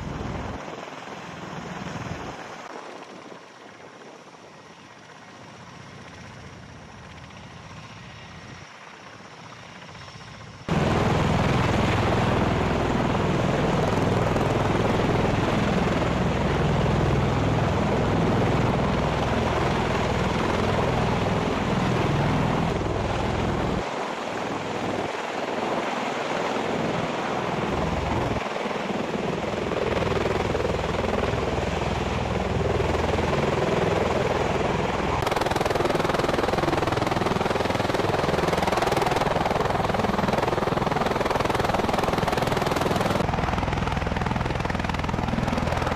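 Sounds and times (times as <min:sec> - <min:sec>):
distant aircraft: 0:00.0 - 0:45.9
helicopter rotor hovering overhead: 0:00.0 - 0:45.9.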